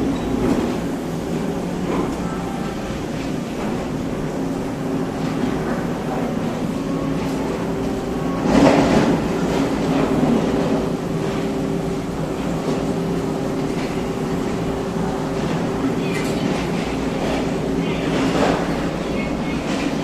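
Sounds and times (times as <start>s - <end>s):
electric train humming: 0.0s - 20.0s
train rush of noise: 0.0s - 20.0s.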